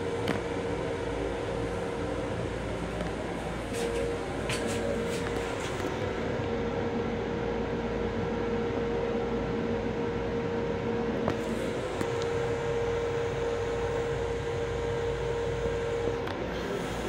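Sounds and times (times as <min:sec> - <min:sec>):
train interior hum: 0:00.0 - 0:17.0.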